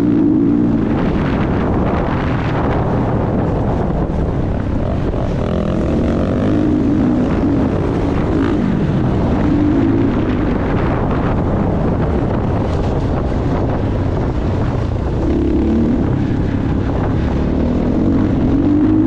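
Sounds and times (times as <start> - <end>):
motorbike engine running: 0.0 - 19.0
wind noise: 0.0 - 19.0.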